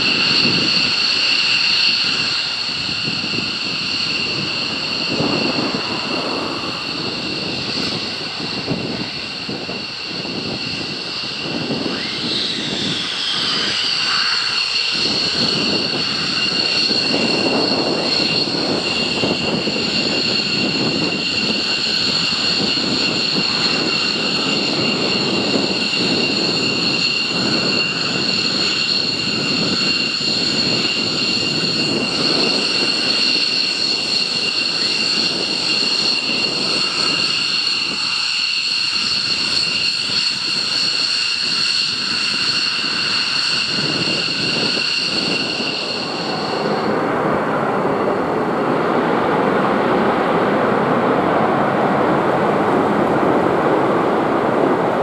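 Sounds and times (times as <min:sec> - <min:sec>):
continuous rough rumble: 0:00.0 - 0:55.0
jet engine whine: 0:00.0 - 0:55.0.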